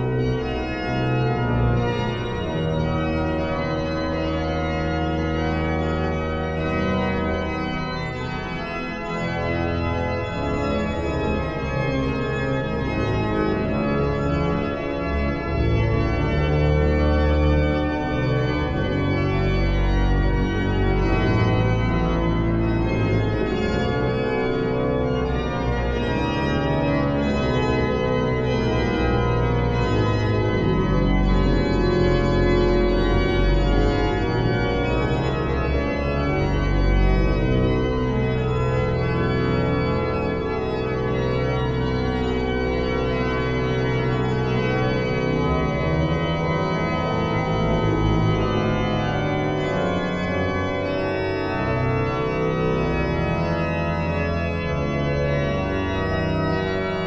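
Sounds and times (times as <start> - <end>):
pipe organ playing chords: 0.0 - 57.0.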